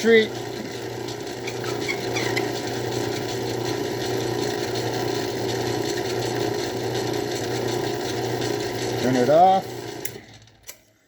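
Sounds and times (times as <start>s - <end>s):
lathe running with drill bit: 0.0s - 10.6s.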